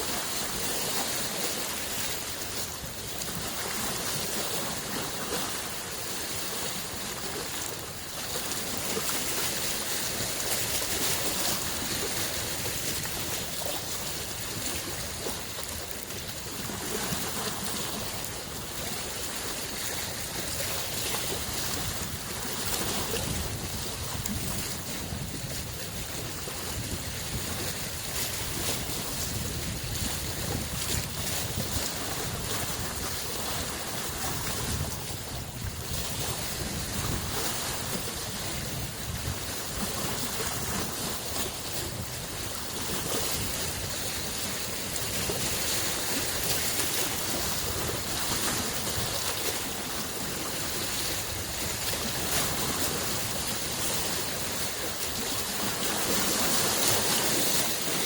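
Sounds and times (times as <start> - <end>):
waves lapping at shore: 0.0 - 58.0
wind on microphone: 0.0 - 58.0.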